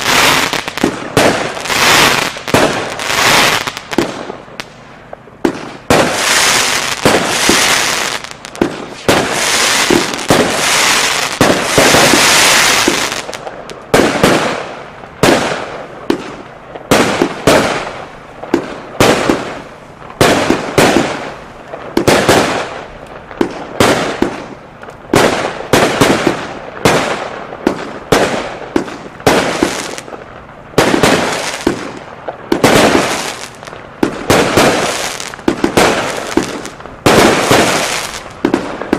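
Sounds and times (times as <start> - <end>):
fireworks shots and bursts: 0.0 - 38.9.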